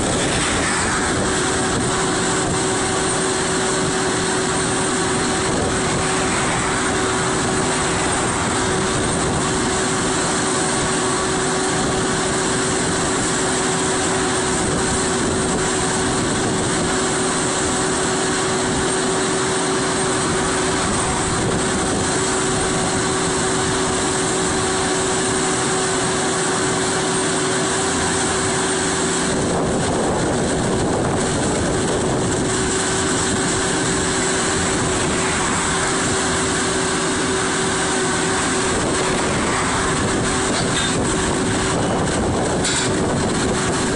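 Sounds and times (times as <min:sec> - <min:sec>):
constant whining tone: 0:00.0 - 0:43.9
drilling rig engine drone: 0:00.0 - 0:43.9.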